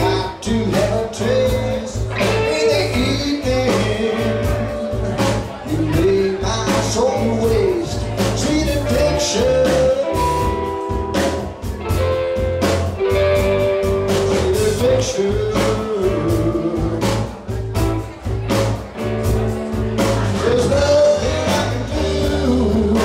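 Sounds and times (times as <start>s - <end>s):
man singing lead: 0.0s - 11.4s, 14.0s - 23.0s
drums with steady beat: 0.0s - 23.0s
electric bass: 0.0s - 23.0s
guitar: 0.0s - 23.0s.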